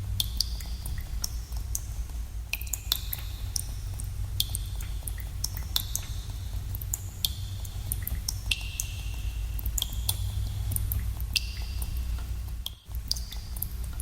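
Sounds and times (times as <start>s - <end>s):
low rumble: 0.0s - 14.0s
water dripping into pools: 0.0s - 14.0s.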